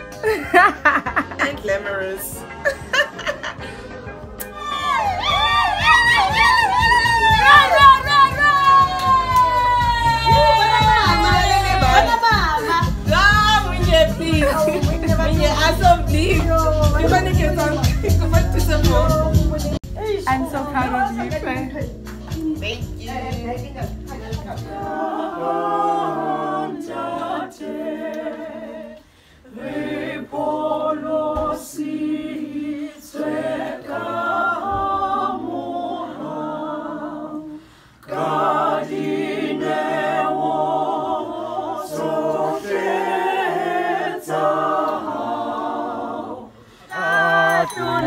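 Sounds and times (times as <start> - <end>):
unaccompanied choir singing: 4.6 - 19.8, 24.4 - 48.0.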